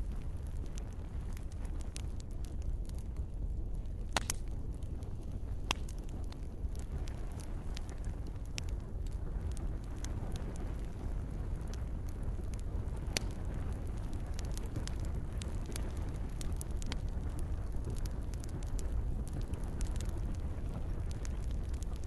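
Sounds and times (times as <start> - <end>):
burning wood popping: 0.0 - 22.0
low rumble of flames: 0.0 - 22.0.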